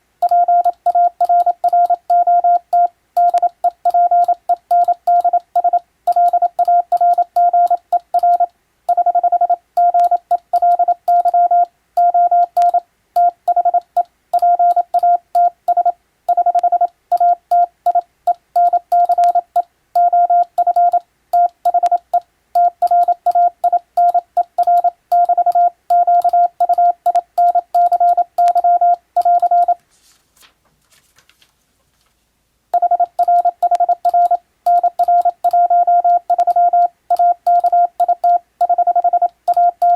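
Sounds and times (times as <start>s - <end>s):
morse code tone: 0.2s - 29.8s, 32.8s - 39.9s.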